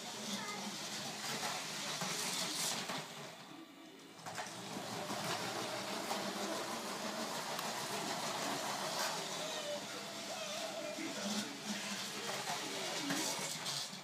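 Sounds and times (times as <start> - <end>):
toy train motor whirring: 0.0 - 3.4, 4.2 - 14.0
wheels rattling over plastic track: 0.0 - 3.5, 4.2 - 14.0.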